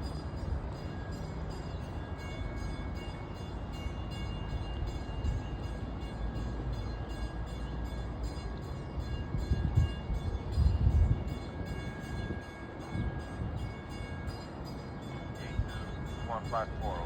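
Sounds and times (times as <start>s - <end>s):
train rumbling across bridge: 0.0s - 17.0s.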